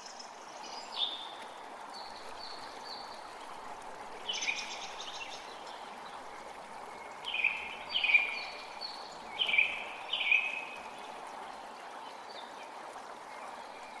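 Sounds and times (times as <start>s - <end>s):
creek rushing: 0.0s - 14.0s.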